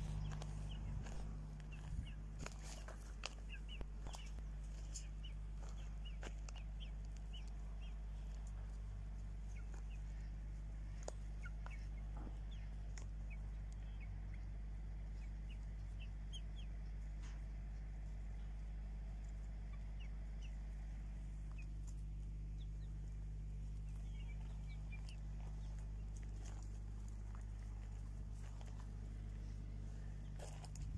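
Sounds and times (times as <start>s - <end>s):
chickens clucking: 0.0s - 30.9s
steady low hum: 0.0s - 30.9s.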